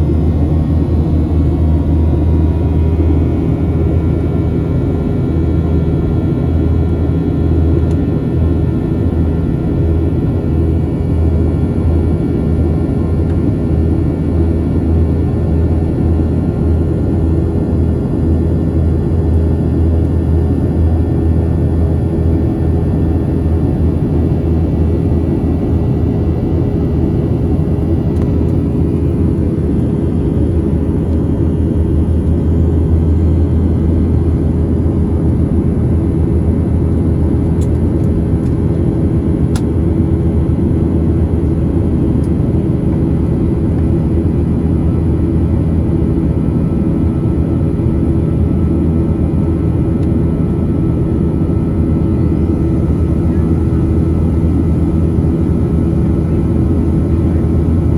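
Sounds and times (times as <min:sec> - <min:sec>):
jet engine cabin drone: 0:00.0 - 0:57.9.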